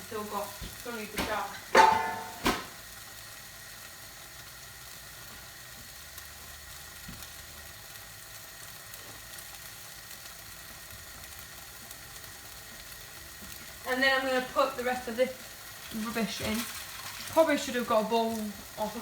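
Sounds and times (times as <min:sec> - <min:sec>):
curry sizzling in a pan: 0:00.0 - 0:19.0.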